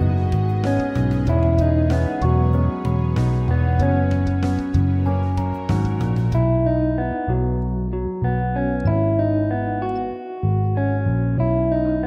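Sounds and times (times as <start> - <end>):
low bass notes: 0.0 - 12.0
plucked guitar music: 0.0 - 12.0.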